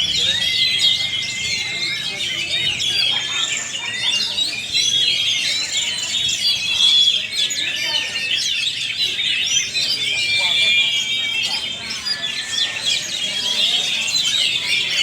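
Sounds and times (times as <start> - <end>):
many birds singing: 0.0 - 15.0.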